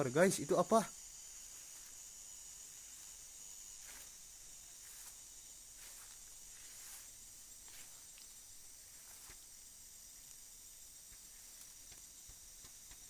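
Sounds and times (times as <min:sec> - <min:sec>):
faint high-pitched hiss: 0:00.0 - 0:13.0.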